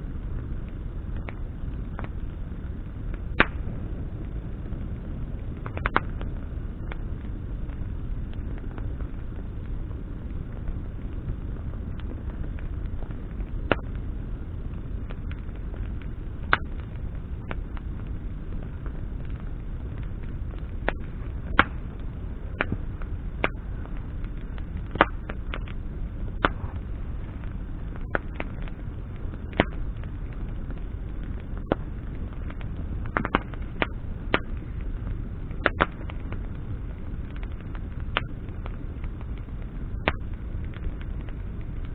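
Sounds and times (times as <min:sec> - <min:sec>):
campfire crackling: 0:00.0 - 0:41.9
low rumble: 0:00.0 - 0:41.9
sharp pops from fire: 0:00.0 - 0:41.9.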